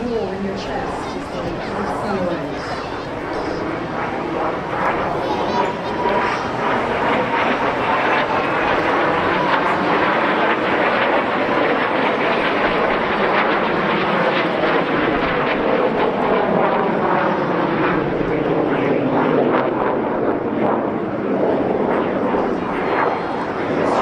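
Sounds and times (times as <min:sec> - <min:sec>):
jet aircraft flying past: 0:00.0 - 0:24.0.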